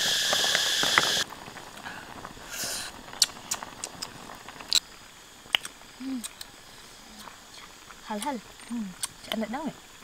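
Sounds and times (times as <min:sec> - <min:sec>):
steam hissing from pot: 0:00.0 - 0:08.6
fire popping: 0:00.0 - 0:10.0
wood fire crackling: 0:00.0 - 0:10.0.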